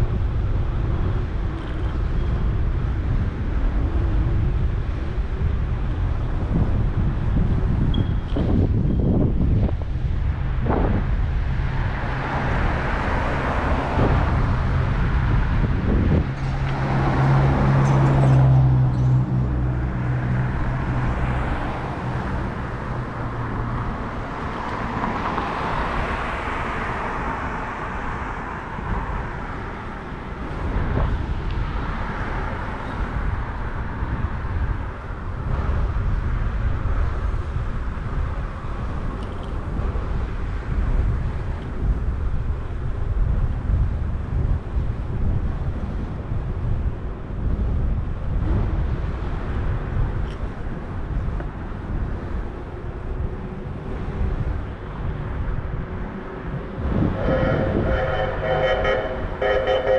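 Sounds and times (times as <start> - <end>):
city street traffic: 0.0 - 59.9
vehicle engine hum: 0.0 - 59.9
wind buffeting microphone: 0.0 - 59.9.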